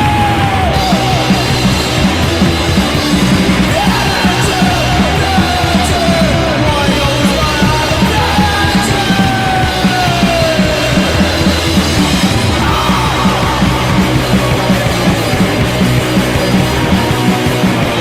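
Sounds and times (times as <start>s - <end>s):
punk rock band playing: 0.0s - 18.0s
steady drum beat: 0.0s - 18.0s.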